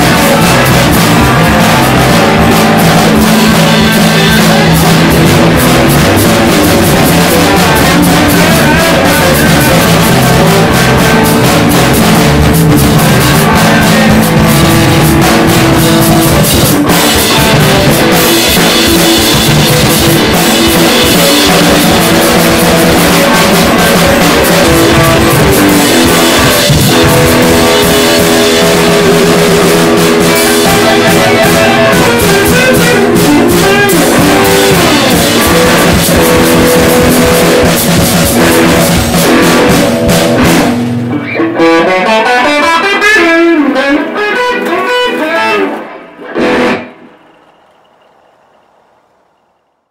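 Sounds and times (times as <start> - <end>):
hard rock song: 0.0 - 47.2.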